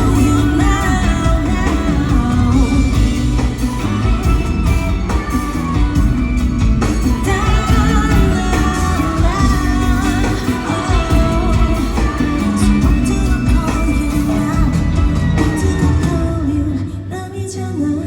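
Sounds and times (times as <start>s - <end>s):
band accompaniment: 0.0s - 17.1s
woman singing: 0.0s - 18.0s.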